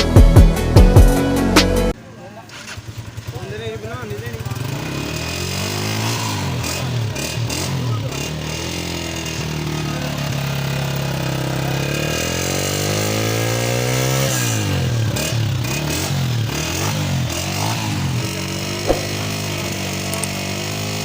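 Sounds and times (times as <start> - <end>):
motorcycle engine revving: 2.6 - 21.0.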